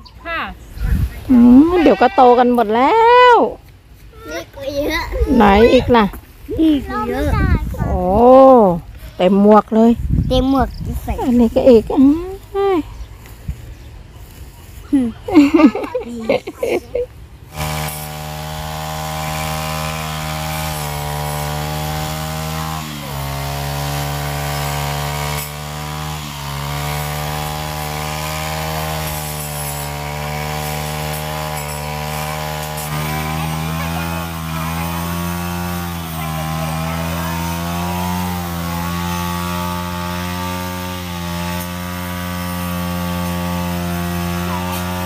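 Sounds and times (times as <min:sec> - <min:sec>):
string trimmer cutting grass: 0:01.0 - 0:45.0.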